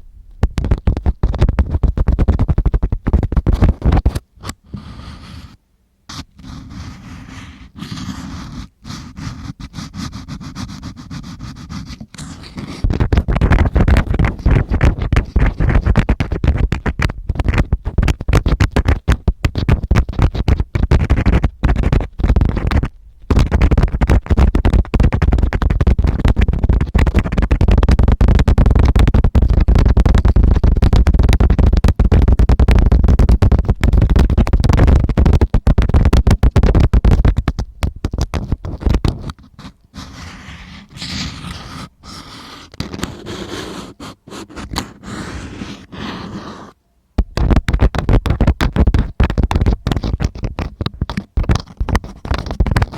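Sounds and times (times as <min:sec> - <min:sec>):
tool scratching on microphone: 0:00.6 - 0:52.9.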